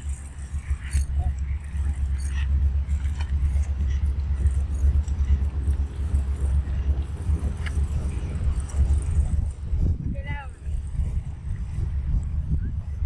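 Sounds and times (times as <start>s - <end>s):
low fluttering rumble: 0.0s - 13.0s.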